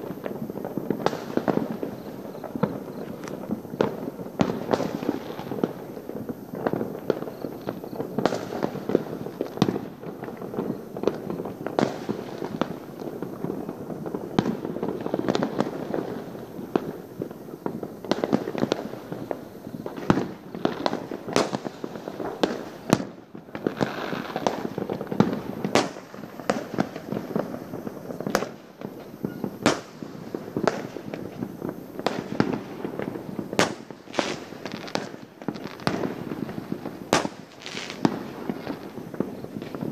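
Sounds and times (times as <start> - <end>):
fireworks popping and banging: 0.0 - 39.9.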